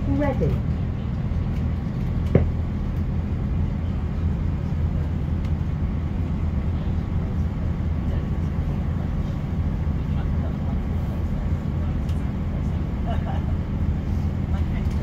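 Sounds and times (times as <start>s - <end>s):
train rumbling inside carriage: 0.0s - 15.0s.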